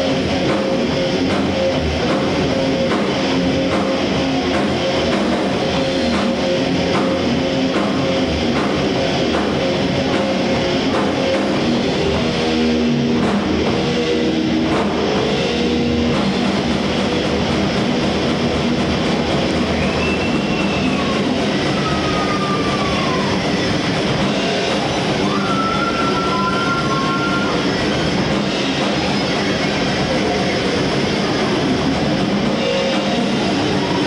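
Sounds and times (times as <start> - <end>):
distorted electric guitars: 0.0 - 34.0
drum kit: 0.0 - 34.0.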